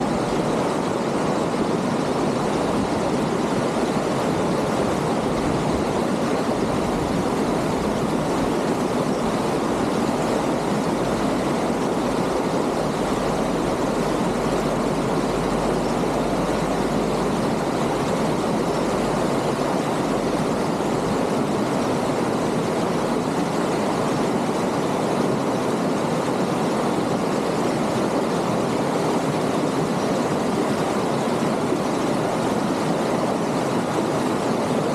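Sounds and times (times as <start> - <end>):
stream rushing over stones: 0.0 - 34.9.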